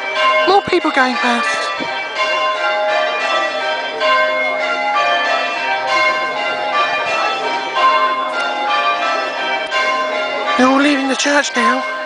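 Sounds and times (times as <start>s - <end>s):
church bells change-ringing: 0.0s - 12.0s.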